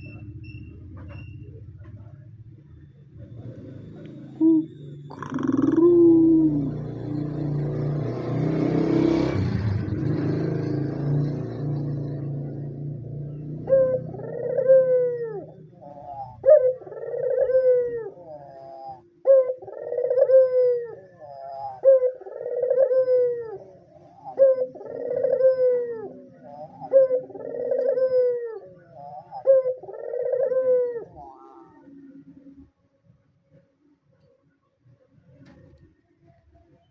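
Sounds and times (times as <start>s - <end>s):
doves cooing: 3.2s - 32.7s.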